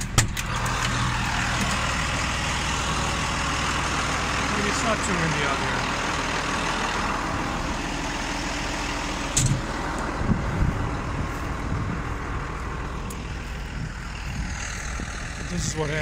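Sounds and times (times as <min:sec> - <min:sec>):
outdoor noise: 0:00.0 - 0:16.0
tractor engine idling: 0:00.0 - 0:16.0.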